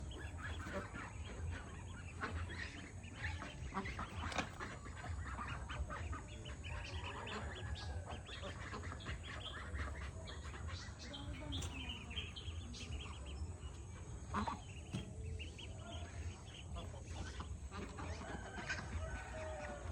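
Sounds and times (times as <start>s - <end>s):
flock of ducks quacking: 0.0s - 19.9s.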